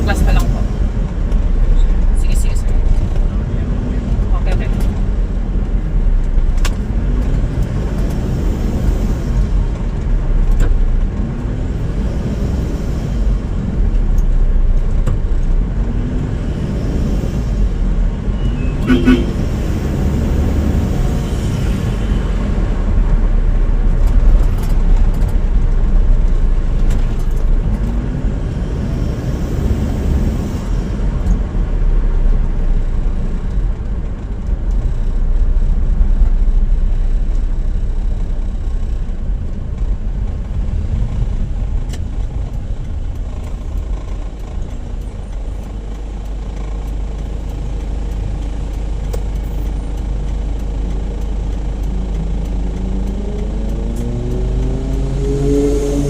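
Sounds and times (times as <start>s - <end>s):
engine and road rumble in cabin: 0.0s - 56.0s.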